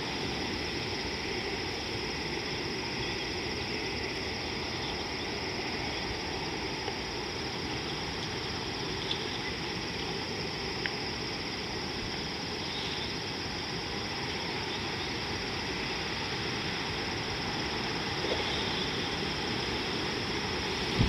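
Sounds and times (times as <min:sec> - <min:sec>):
constant high hiss: 0:00.0 - 0:21.0.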